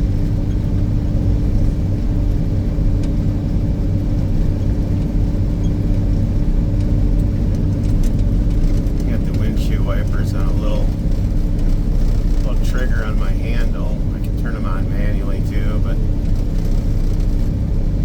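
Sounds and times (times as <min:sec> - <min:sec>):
snowcat engine rumbling: 0:00.0 - 0:18.0.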